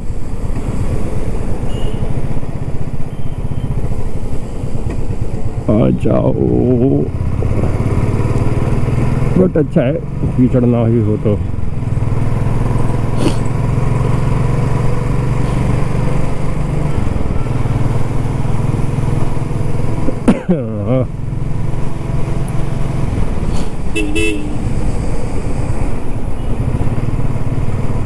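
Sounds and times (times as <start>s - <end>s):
motorcycle engine droning: 0.2s - 28.0s.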